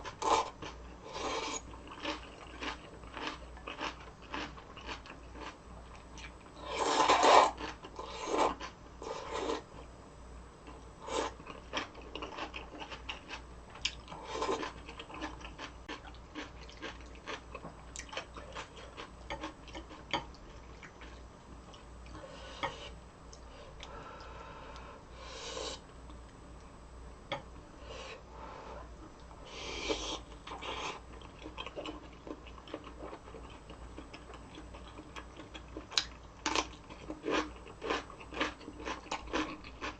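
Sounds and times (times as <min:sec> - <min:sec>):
chewing and crunching food: 0:00.0 - 0:09.7, 0:10.6 - 0:22.2, 0:28.9 - 0:39.9.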